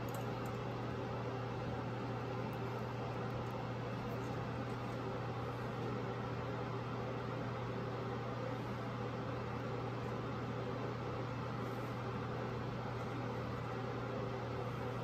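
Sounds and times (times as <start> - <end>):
exhaust fan running: 0.0 - 15.0.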